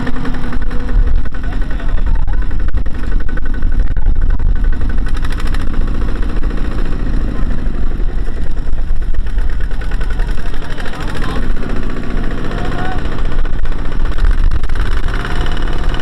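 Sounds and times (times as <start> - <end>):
diesel engine labouring: 0.0 - 16.0.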